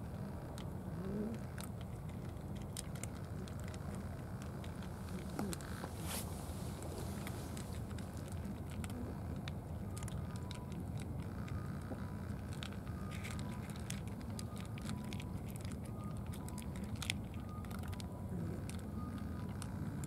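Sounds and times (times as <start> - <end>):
cats crunching dry kibble: 0.5 - 20.0.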